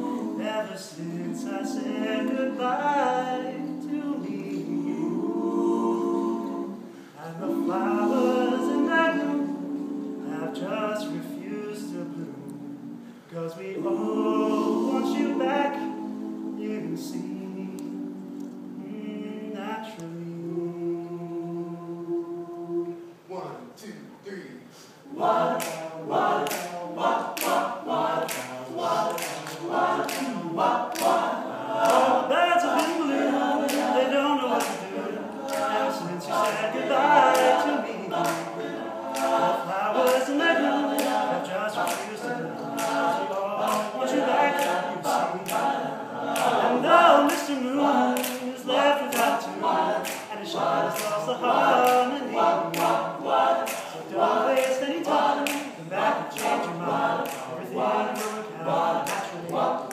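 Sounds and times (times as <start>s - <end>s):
male a cappella group singing: 0.0s - 23.3s, 25.0s - 59.9s.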